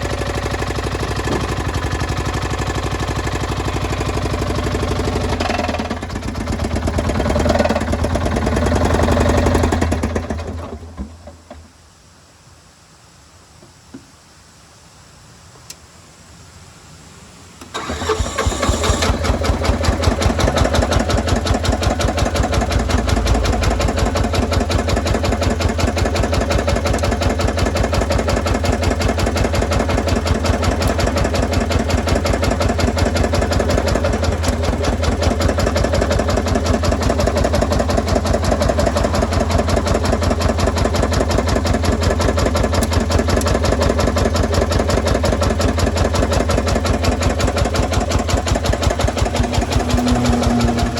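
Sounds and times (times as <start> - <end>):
diesel engine idling: 0.0 - 10.6, 17.7 - 50.9
diesel engine cranking: 0.0 - 11.1, 17.6 - 50.9.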